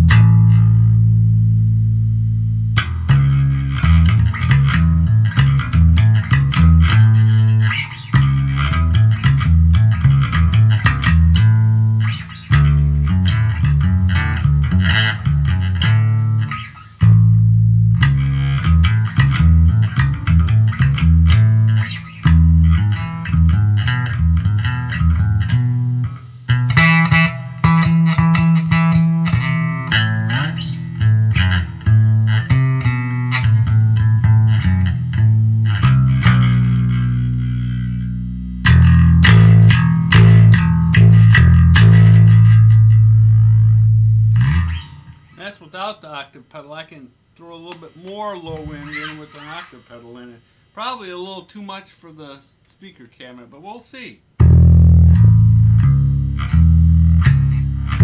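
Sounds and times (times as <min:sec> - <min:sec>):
electric bass playing: 0:00.0 - 0:45.9, 0:47.4 - 0:51.0, 0:54.4 - 0:58.0.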